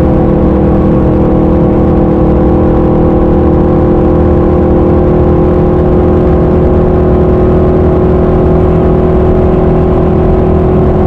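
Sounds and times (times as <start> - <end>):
car engine droning: 0.0 - 11.0
wind and road noise: 0.0 - 11.0.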